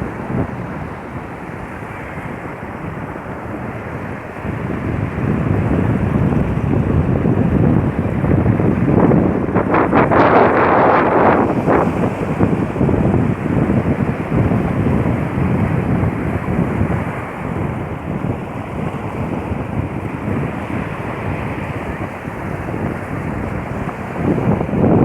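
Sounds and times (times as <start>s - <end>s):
sea waves washing onto beach: 0.0s - 25.0s
wind buffeting microphone: 0.0s - 25.0s.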